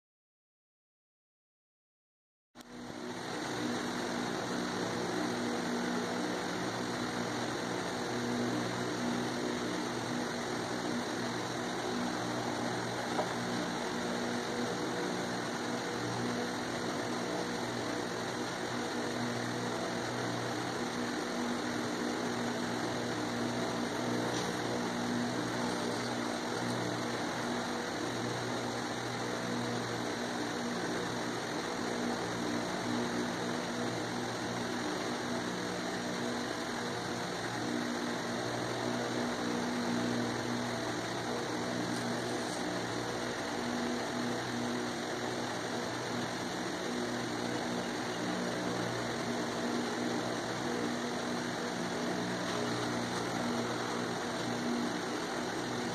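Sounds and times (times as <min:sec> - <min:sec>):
mechanical hum: 0:02.6 - 0:55.9.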